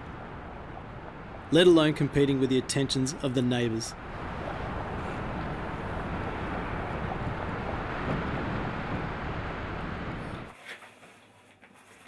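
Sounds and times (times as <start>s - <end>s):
strong wind blowing: 0.0s - 10.5s.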